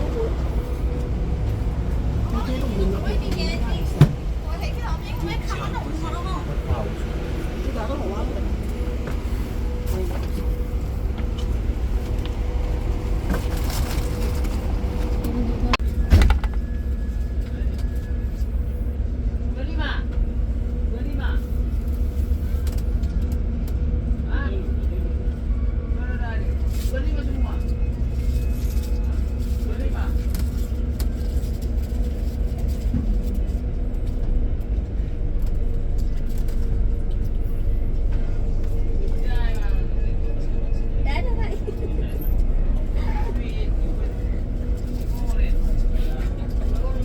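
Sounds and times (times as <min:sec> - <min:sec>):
coach engine low rumble: 0:00.0 - 0:47.0.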